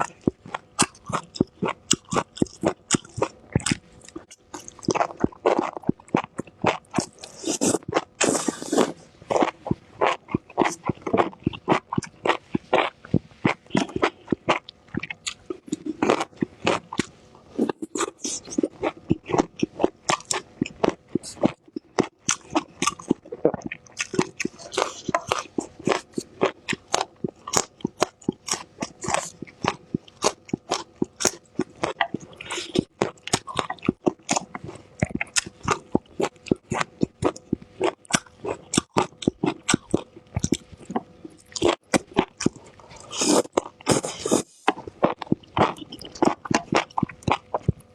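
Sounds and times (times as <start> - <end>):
person chewing crunchy peppers: 0.0 - 47.9.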